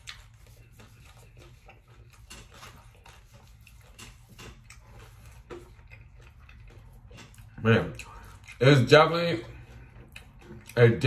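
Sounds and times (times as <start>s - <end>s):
mouth chewing food: 0.0s - 11.0s.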